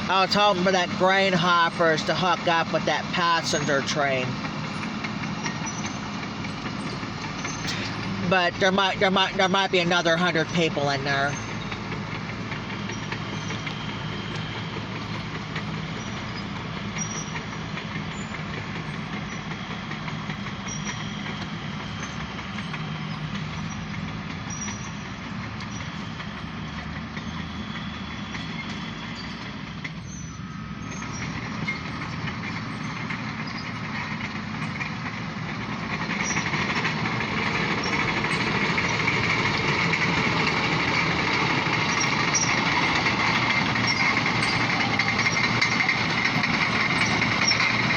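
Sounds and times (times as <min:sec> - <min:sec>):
diesel locomotive engine drone: 0:00.0 - 0:47.9
high engine whine: 0:00.0 - 0:47.9.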